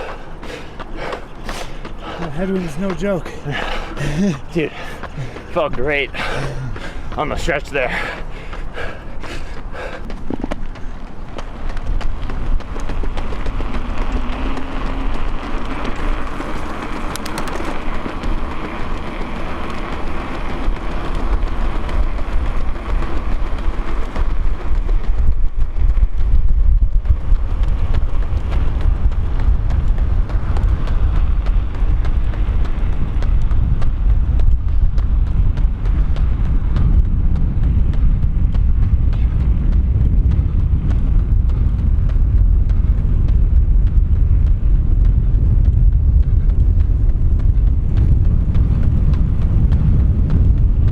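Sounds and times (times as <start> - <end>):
road traffic: 0.0 - 26.0, 27.0 - 50.7
wind buffeting microphone: 0.0 - 50.9.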